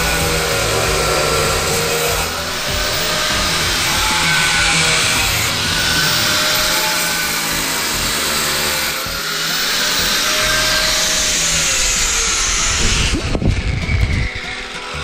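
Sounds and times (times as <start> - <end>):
angle grinder cutting tile: 0.0 - 15.0.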